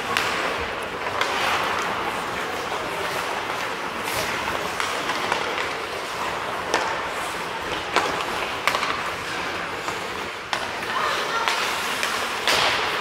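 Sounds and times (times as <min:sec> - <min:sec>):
hockey sticks and puck clacking: 0:00.0 - 0:13.0
skates scraping on ice: 0:00.0 - 0:13.0.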